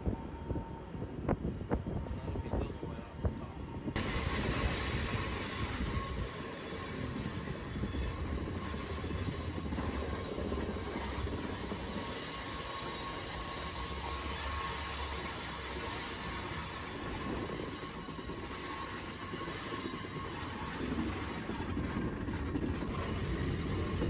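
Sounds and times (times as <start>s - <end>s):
train rumbling on rails: 0.0s - 24.0s
high-pitched wheel squeal: 4.0s - 24.0s.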